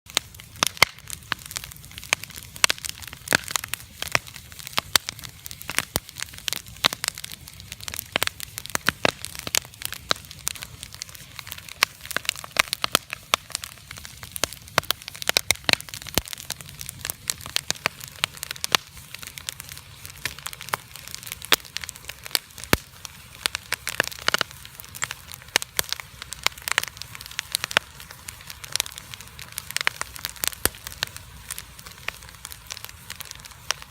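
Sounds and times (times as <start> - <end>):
campfire crackling and popping: 0.1 - 33.9
faint hiss of burning: 0.1 - 33.9.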